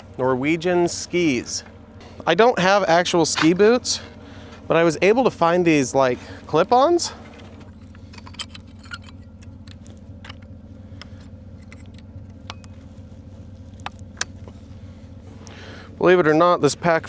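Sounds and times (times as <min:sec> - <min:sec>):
vehicle idling hum: 0:00.0 - 0:17.0.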